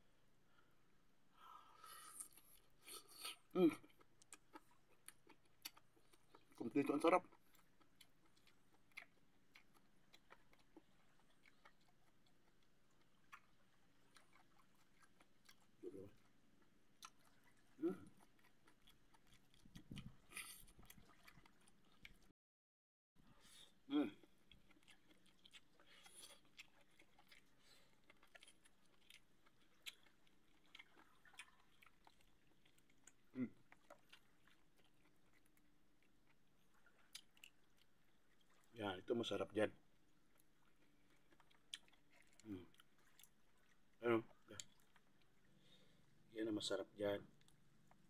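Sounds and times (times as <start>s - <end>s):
person chewing: 1.8s - 6.6s, 7.3s - 22.3s, 23.4s - 38.7s, 40.1s - 46.3s.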